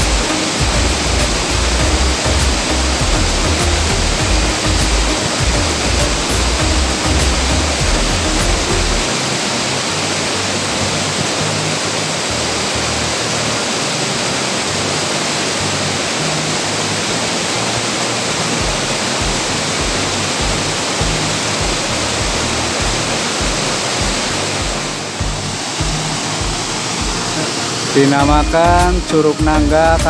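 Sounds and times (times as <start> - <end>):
waterfall cascading over rocks: 0.0 - 30.0.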